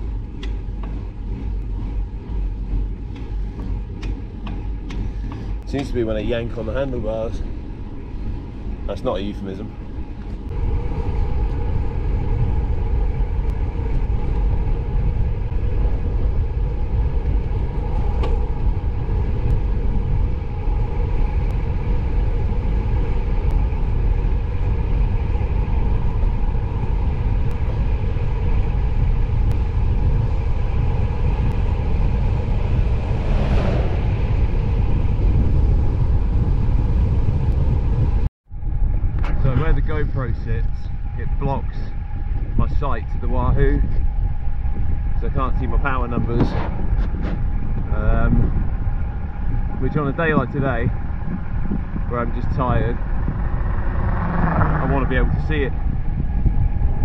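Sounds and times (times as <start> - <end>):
bike tyres humming on asphalt: 0.0 - 57.0
wind rushing over microphone: 0.0 - 57.0.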